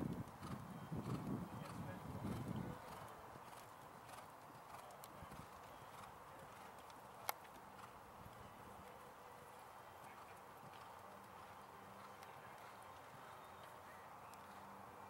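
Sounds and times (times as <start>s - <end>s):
horse hoofbeats on sand: 0.0s - 14.8s.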